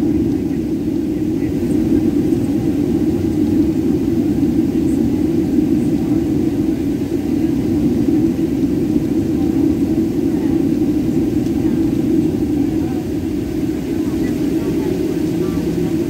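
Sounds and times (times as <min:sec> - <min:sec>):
jet engine cabin hum: 0:00.0 - 0:16.0.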